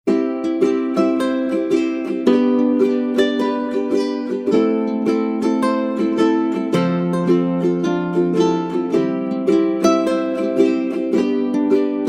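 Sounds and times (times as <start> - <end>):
plucked string melody: 0.1 - 12.0.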